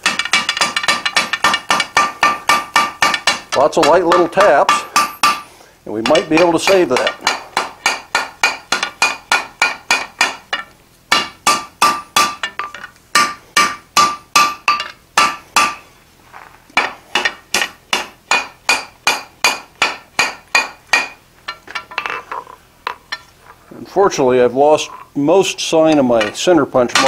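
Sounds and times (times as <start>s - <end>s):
hammer tapping on anvil: 0.0s - 15.8s, 16.8s - 22.3s, 25.9s - 27.0s.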